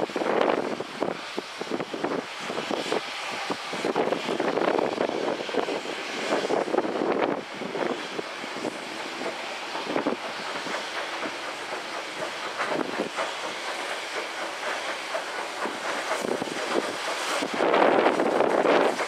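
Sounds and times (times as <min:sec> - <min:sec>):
slow steam exhaust beats: 0:00.0 - 0:19.0
steady steam hiss: 0:00.0 - 0:19.0.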